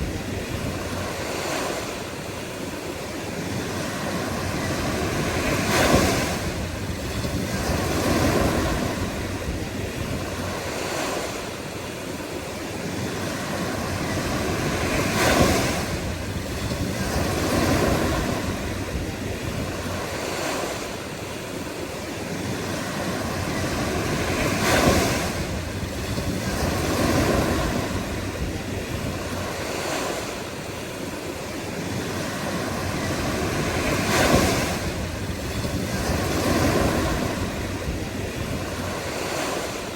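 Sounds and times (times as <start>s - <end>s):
ocean waves breaking: 0.0s - 39.9s
rush of surf: 0.0s - 39.9s.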